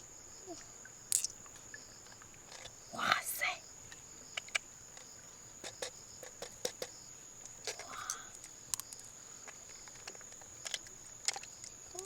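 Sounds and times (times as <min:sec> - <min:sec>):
high-pitched insect trill: 0:00.1 - 0:12.0.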